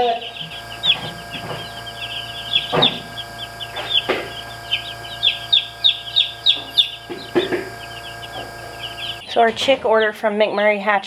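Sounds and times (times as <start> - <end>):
chicks peeping: 0.0 - 10.9.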